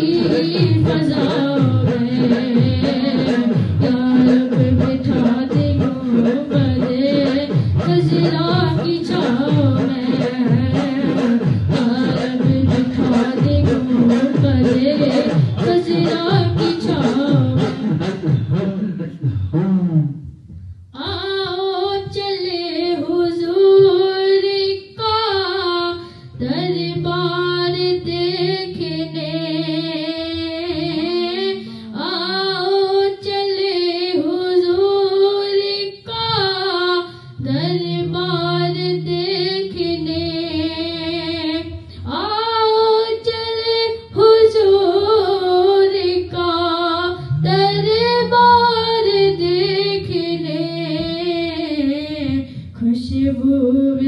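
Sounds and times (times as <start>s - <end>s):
high voice singing: 0.0s - 20.1s, 21.0s - 54.0s.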